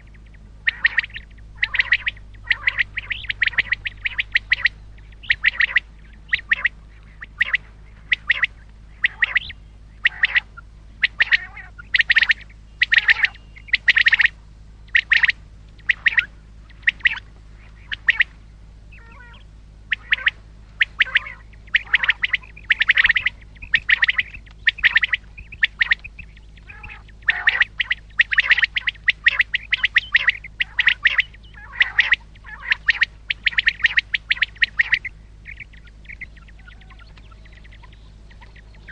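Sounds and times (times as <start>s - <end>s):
quail calling: 0.0s - 38.9s
steady low hum: 0.0s - 38.9s.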